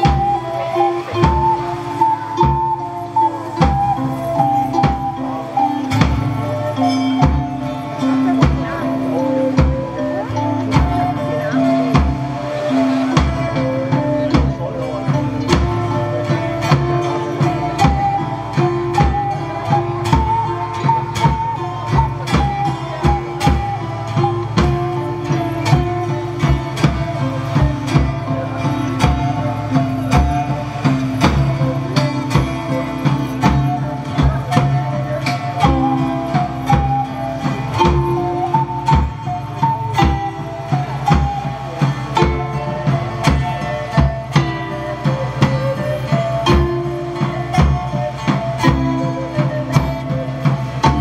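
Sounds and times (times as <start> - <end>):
folk band playing: 0.0 - 51.0
steady drumbeat: 0.0 - 51.0
stepping melody line: 0.0 - 51.0.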